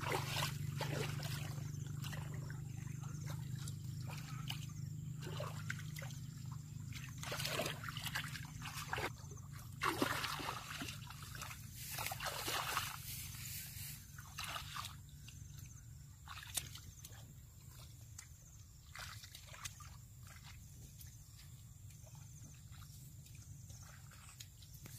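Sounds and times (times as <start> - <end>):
water sloshing and splashing: 0.0 - 24.9.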